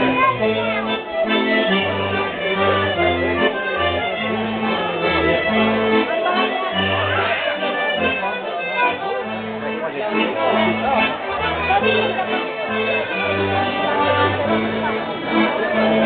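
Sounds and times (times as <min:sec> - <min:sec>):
accordion dance music: 0:00.0 - 0:16.0
faint crowd voices: 0:00.0 - 0:16.0.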